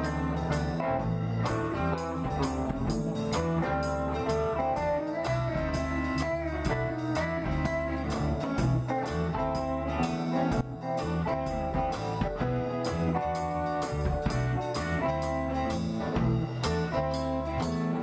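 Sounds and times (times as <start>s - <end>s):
drum kit beat: 0.0s - 18.0s
electric guitars: 0.0s - 18.0s.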